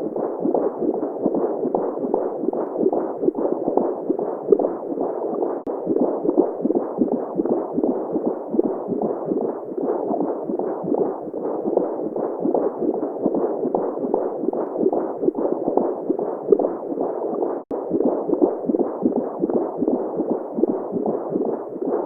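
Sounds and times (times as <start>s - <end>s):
fast throbbing pulse: 0.0s - 22.0s.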